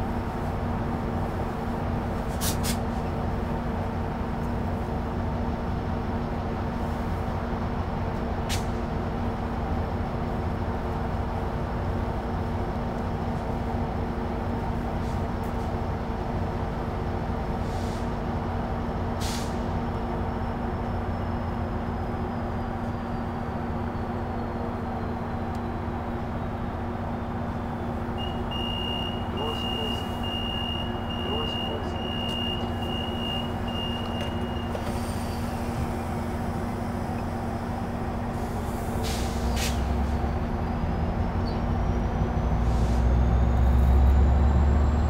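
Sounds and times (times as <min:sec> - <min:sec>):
diesel train idling: 0:00.0 - 0:45.0.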